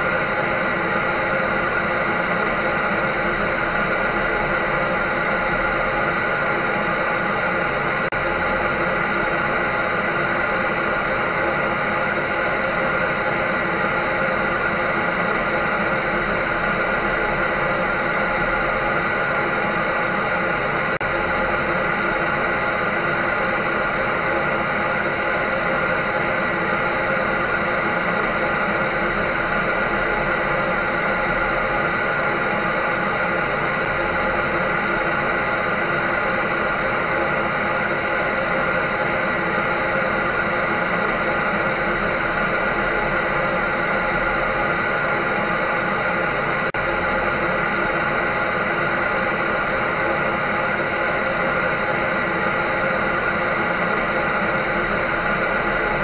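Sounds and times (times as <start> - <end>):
drying machine running: 0.0 - 56.0.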